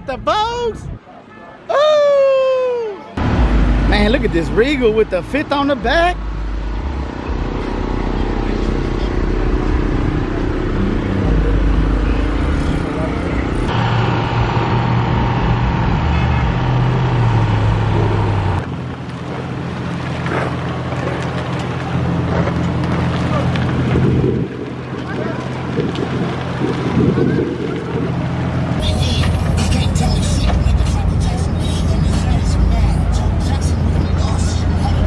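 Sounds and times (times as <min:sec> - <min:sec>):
car engines rolling past: 0:03.2 - 0:35.0.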